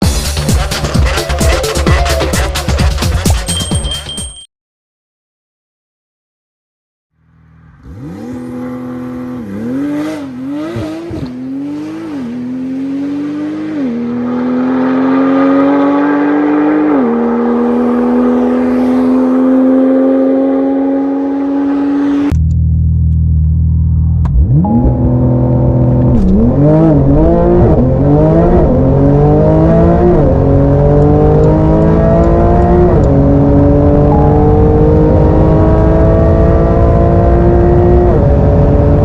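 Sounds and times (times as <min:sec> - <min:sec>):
sports car engine revving through gears: 0:07.7 - 0:39.0.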